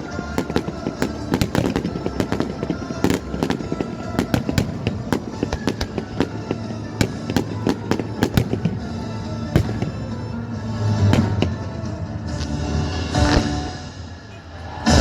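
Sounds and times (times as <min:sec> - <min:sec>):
fireworks cracks and bangs: 0:00.0 - 0:13.9
loud show music: 0:00.0 - 0:15.0.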